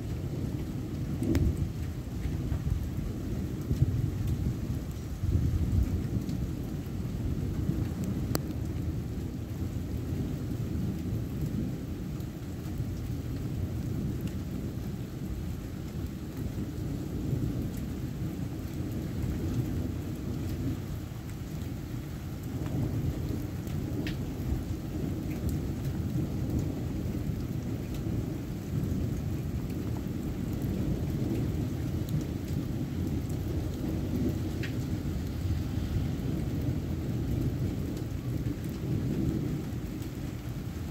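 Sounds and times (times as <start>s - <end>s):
rolling thunder: 0.0s - 21.7s, 22.3s - 40.9s
rain falling: 0.0s - 40.9s.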